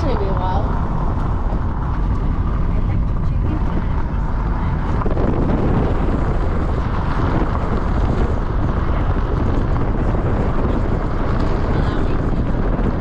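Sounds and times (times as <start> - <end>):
moving vehicle rumble: 0.0 - 13.0
road noise: 0.0 - 13.0
wind buffeting microphone: 0.0 - 13.0.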